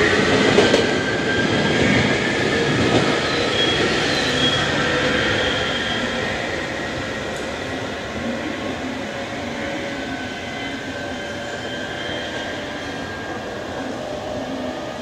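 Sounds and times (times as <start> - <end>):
electric trains rumbling: 0.0 - 15.0.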